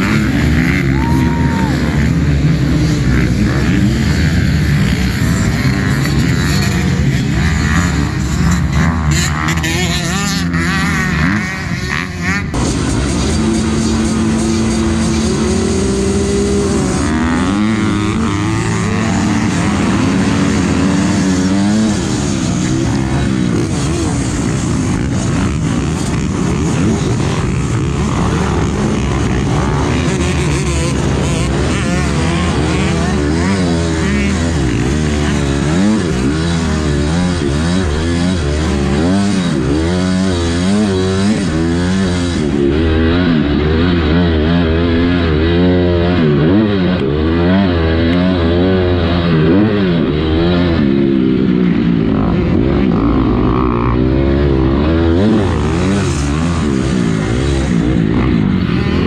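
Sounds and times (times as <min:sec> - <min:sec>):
motocross bikes revving and racing: 0:00.0 - 0:59.0.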